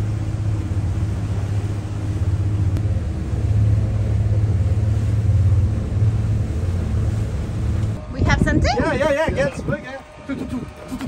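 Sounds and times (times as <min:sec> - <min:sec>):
outboard motors droning: 0:00.0 - 0:11.0.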